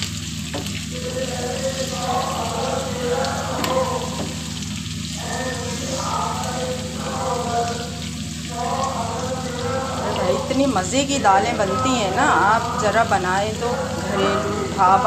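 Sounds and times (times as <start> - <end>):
steady low hum: 0.0 - 15.0
vegetables sizzling in hot oil: 0.0 - 15.0.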